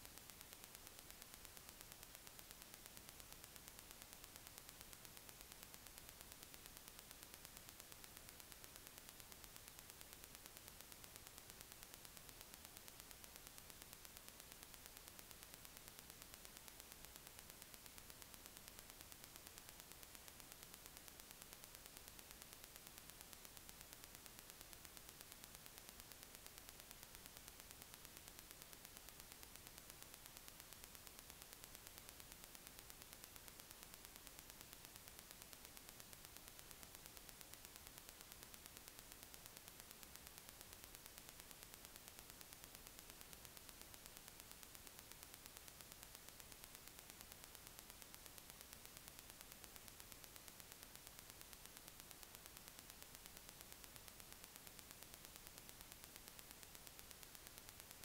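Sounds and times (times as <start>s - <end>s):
faint recording hiss: 0.0s - 58.0s.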